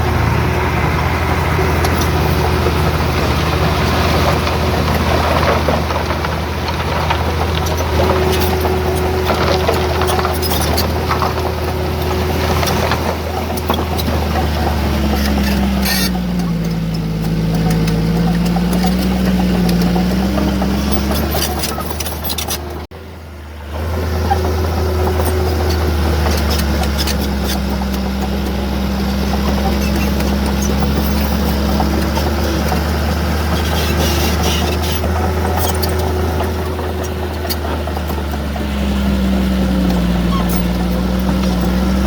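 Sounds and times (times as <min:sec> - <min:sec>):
diesel earthmoving machinery running: 0:00.0 - 0:42.0.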